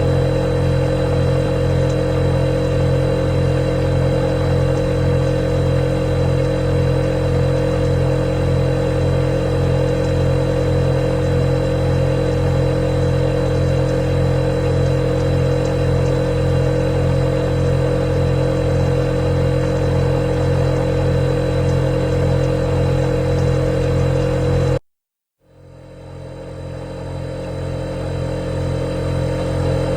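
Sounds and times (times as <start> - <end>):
refrigerator compressor humming: 0.0 - 24.8, 25.5 - 29.9.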